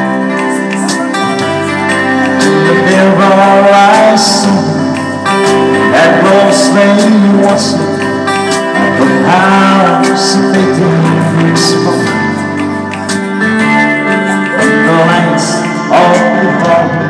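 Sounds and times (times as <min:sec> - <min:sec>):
keyboard sustained chords: 0:00.0 - 0:17.0
man singing: 0:00.0 - 0:17.0.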